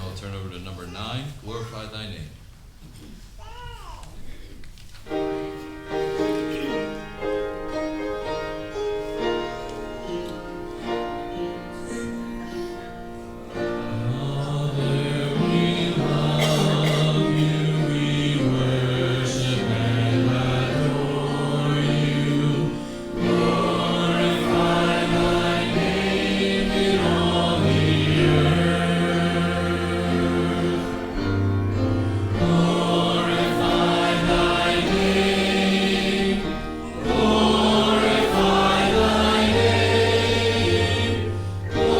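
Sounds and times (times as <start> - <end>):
instrumental accompaniment: 5.1 - 41.9
voices singing a hymn: 5.1 - 41.9.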